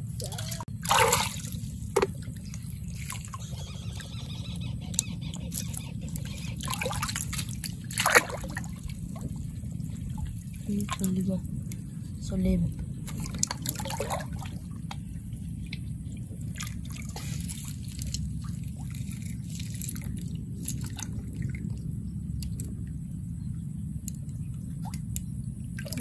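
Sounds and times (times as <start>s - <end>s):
water splashes and drips: 0.0s - 3.8s, 4.9s - 26.0s
steady low rumble: 0.0s - 26.0s.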